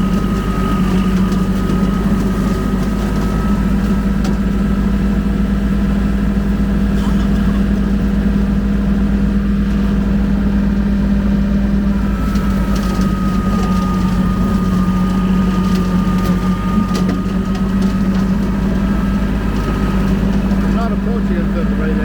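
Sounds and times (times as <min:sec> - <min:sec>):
rotary mower high whine: 0:00.0 - 0:22.0
tractor diesel engine running: 0:00.0 - 0:22.0.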